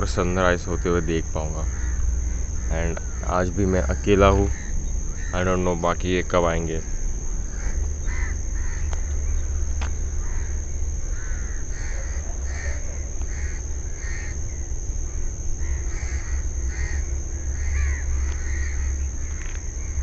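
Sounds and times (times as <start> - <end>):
crows cawing: 0.0 - 5.8, 6.8 - 20.0
high-pitched whine: 0.0 - 20.0
low rumble: 0.0 - 20.0.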